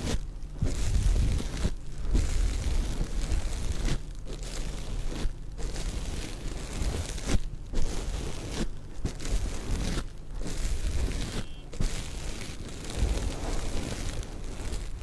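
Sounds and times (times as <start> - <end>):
stones scraping together: 0.1 - 15.0.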